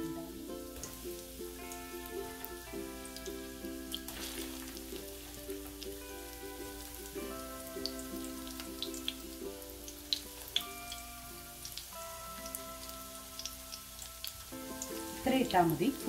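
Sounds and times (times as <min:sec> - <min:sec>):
soft background music: 0:00.0 - 0:16.0
oil crackling and spitting: 0:00.8 - 0:15.3.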